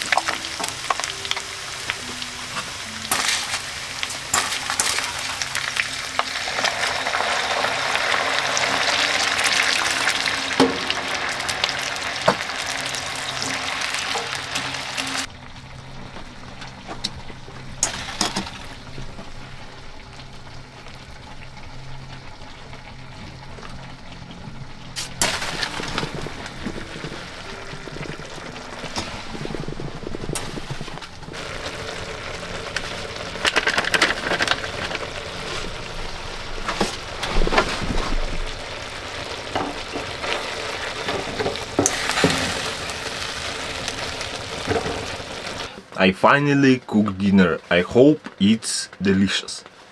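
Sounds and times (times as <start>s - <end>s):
meat sizzling in a pan: 0.0s - 45.8s.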